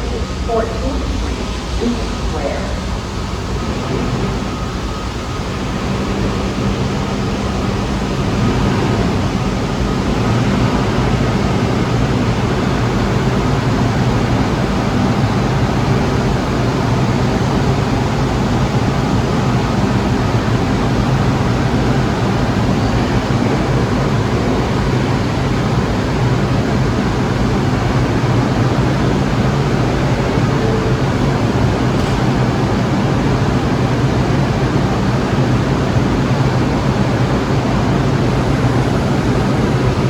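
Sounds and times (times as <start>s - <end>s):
subway train rumbling: 0.0s - 40.0s.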